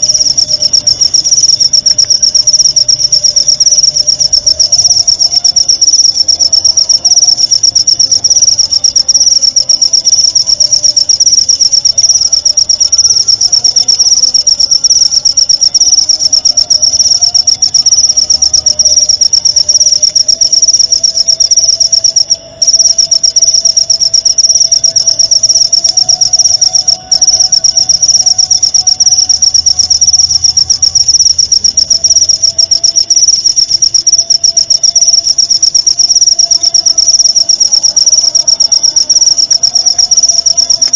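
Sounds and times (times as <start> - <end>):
cricket trilling: 0.0 - 40.9.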